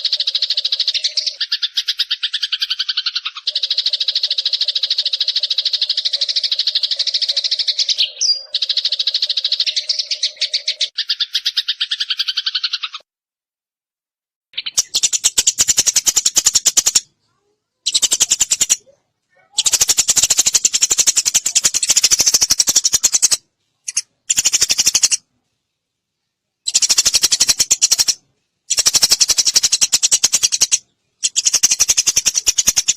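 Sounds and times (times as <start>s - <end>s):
sparrows chattering harshly: 0.0s - 13.0s, 14.6s - 25.3s, 26.6s - 32.9s.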